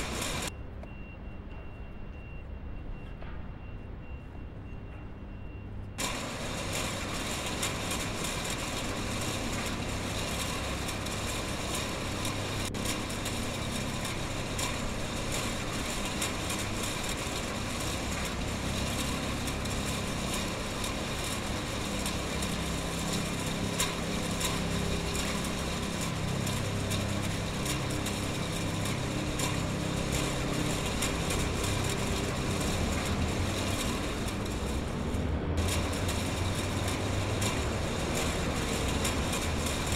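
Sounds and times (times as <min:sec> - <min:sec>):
packaging machinery running: 0:00.0 - 0:00.5, 0:06.0 - 0:39.9.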